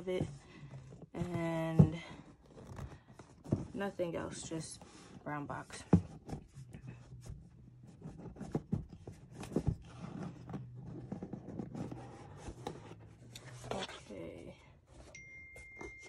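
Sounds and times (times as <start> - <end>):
cardboard rubbing and scraping: 0.0 - 15.1.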